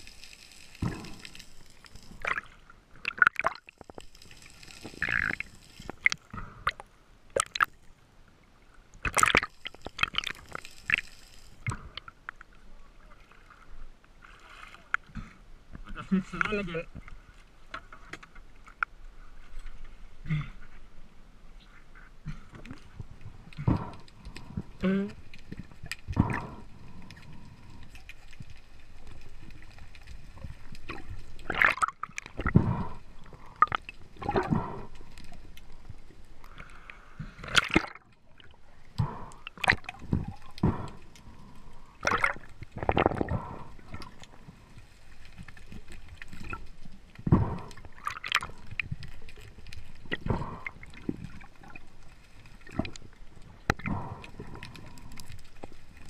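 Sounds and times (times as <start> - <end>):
water sloshing and gurgling: 0.0 - 56.0.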